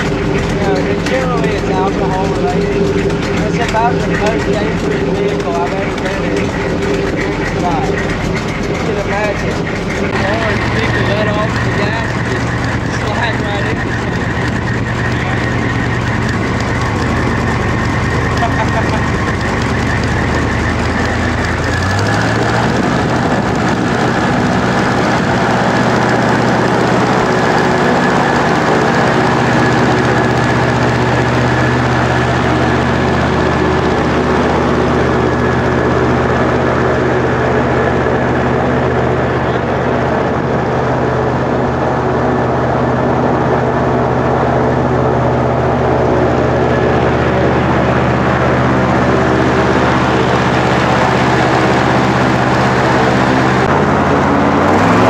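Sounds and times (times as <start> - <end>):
airboat engine and propeller: 0.0 - 55.0.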